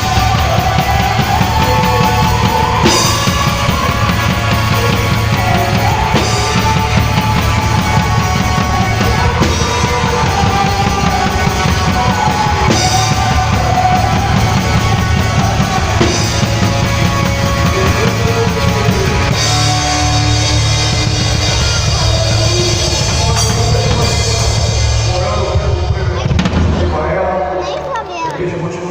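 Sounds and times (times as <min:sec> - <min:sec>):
drum kit: 0:00.0 - 0:28.7
band playing loud rock music: 0:00.0 - 0:28.9.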